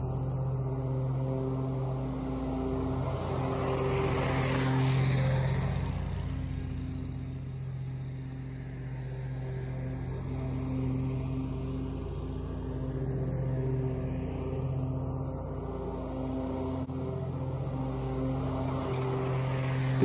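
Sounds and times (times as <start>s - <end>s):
mower engine running: 0.0s - 20.0s.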